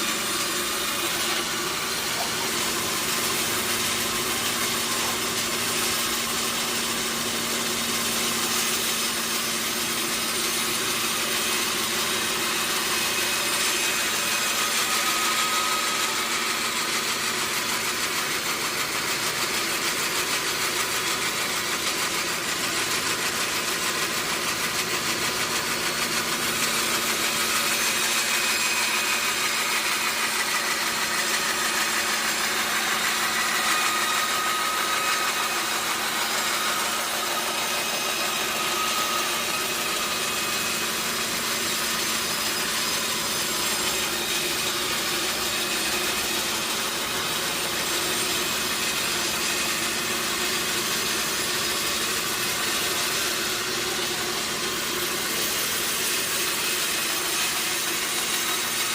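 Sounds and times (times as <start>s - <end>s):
sawmill machinery running: 0.0s - 58.9s.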